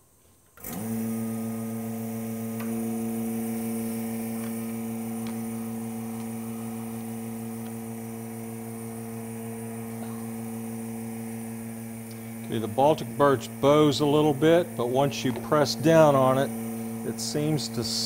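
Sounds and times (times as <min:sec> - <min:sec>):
vacuum pump humming: 0:00.6 - 0:18.0.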